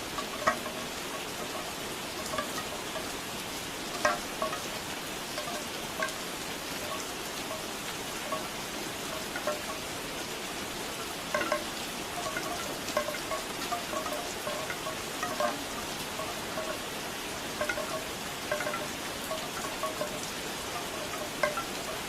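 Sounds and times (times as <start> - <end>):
bamboo wind chimes clacking: 0.0 - 22.0
steady rain: 0.0 - 22.0.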